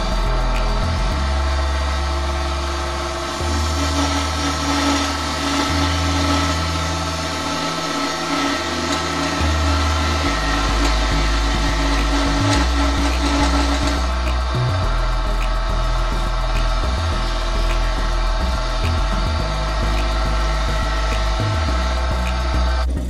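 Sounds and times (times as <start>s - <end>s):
gouge cutting spinning wood: 0.0s - 23.0s
wood lathe motor running: 0.0s - 23.0s.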